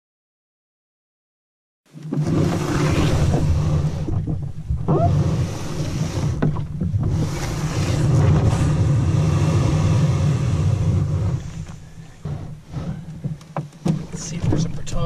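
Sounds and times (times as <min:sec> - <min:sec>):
wind buffeting microphone: 0:02.1 - 0:15.0.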